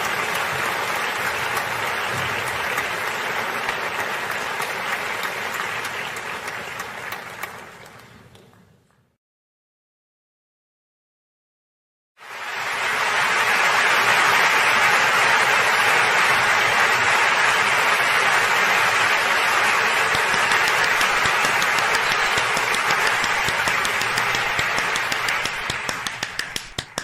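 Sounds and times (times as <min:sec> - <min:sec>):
crowd applauding: 0:00.0 - 0:08.4, 0:12.2 - 0:27.0.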